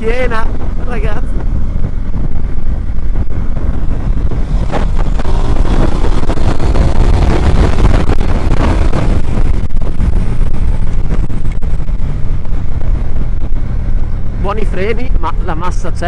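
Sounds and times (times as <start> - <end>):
motorcycle engine under heavy throttle: 0.0 - 16.0
wind rushing over microphone: 0.0 - 16.0.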